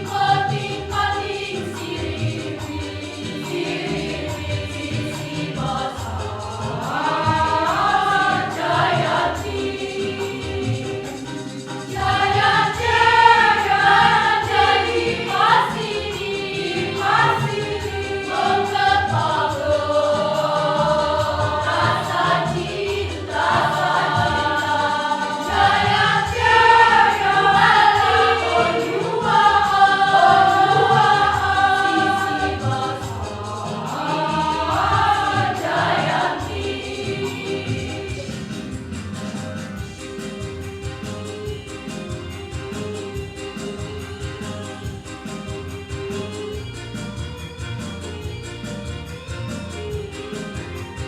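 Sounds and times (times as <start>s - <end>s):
choir singing: 0.0s - 46.4s.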